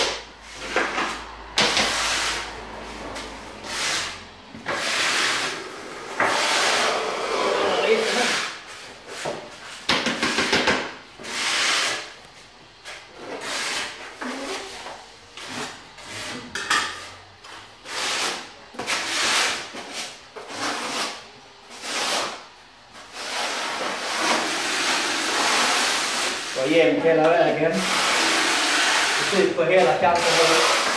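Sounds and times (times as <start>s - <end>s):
trowel scraping concrete floor: 0.0s - 30.9s.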